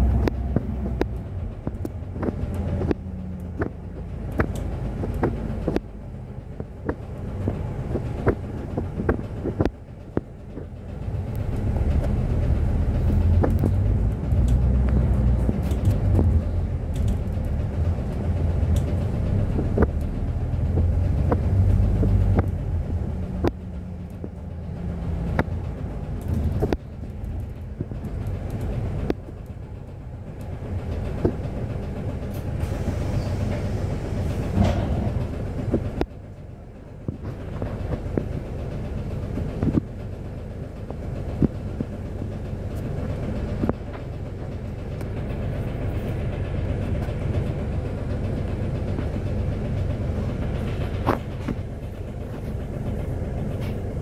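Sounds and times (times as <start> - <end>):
bus drivetrain rumble: 0.0 - 54.0
interior rattles and knocks: 0.0 - 54.0
steady low hum: 0.0 - 54.0.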